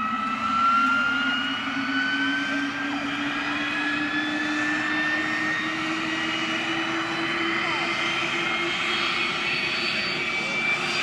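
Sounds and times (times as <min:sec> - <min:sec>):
helicopter turbine whine rising: 0:00.0 - 0:11.0.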